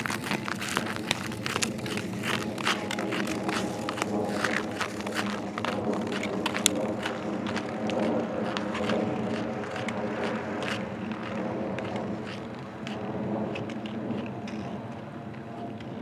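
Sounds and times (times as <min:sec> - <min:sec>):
ice skate blades scraping ice: 0:00.0 - 0:15.8.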